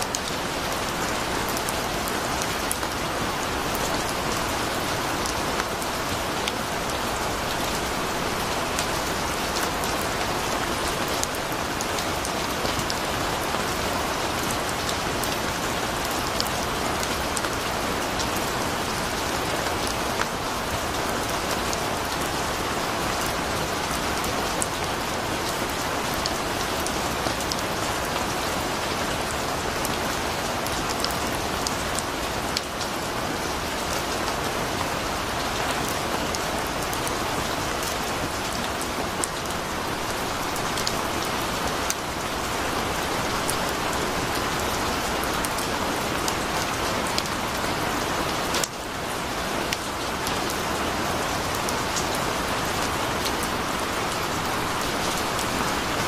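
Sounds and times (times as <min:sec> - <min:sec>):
patter of raindrops: 0:00.0 - 0:56.0
torrential rain splashing on ground: 0:00.0 - 0:56.0.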